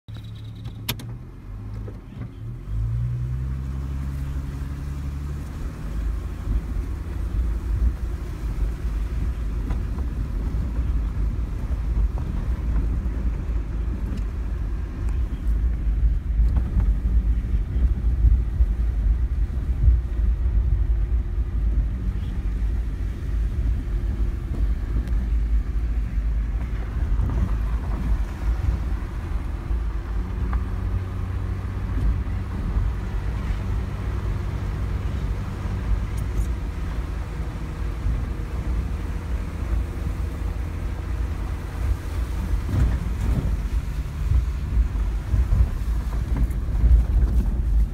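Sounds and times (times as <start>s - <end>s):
vehicle engine: 0.0s - 47.9s
tyres rumbling on dirt trail: 1.5s - 47.9s.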